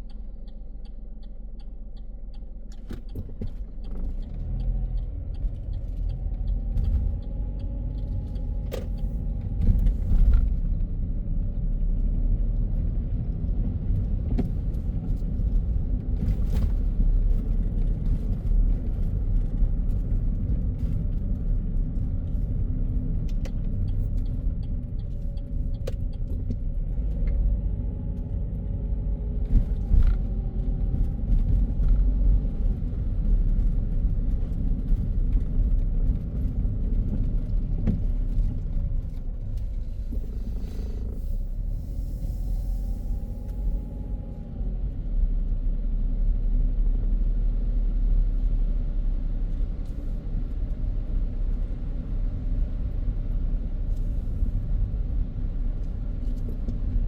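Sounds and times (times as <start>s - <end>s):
tyres and engine rumbling: 0.0s - 57.0s.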